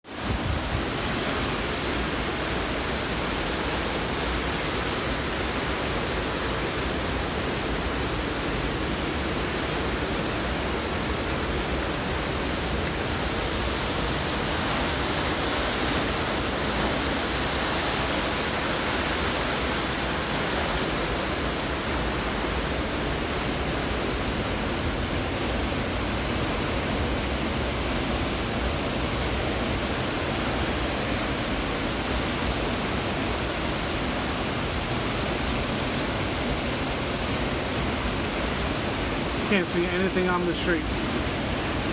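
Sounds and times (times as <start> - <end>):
heavy rain: 0.0 - 41.9
strong wind: 0.0 - 41.9.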